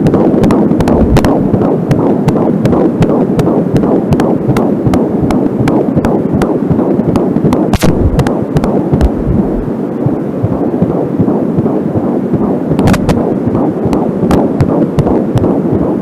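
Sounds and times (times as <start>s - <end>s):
fetal heartbeat whooshing pulse: 0.0s - 16.0s
static crackles: 0.0s - 16.0s.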